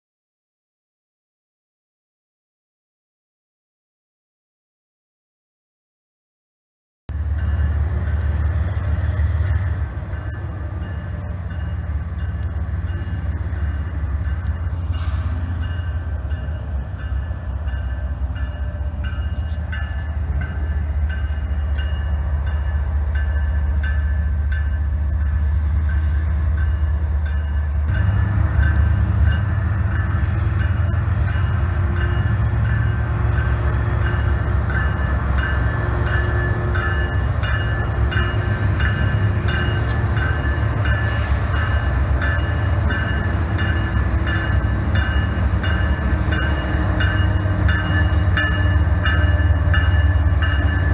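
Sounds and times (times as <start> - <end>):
locomotive engine rumble: 7.1 - 50.9.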